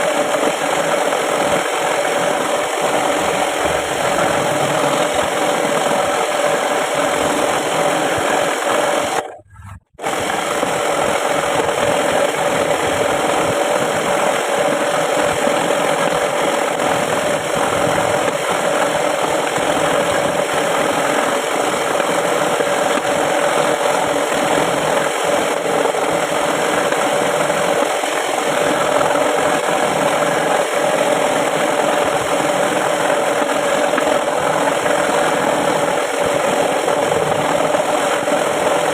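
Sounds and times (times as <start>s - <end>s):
scroll saw cutting wood: 0.0s - 38.9s.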